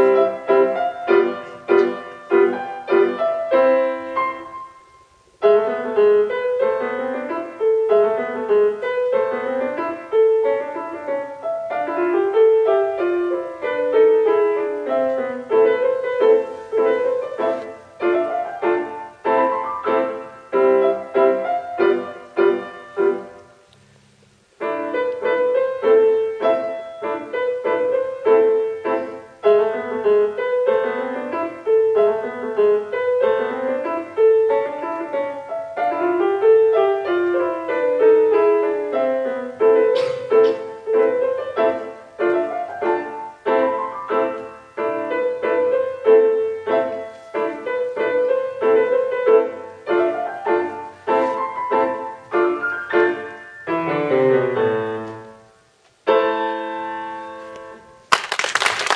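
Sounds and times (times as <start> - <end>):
solo grand piano: 0.0 - 58.9.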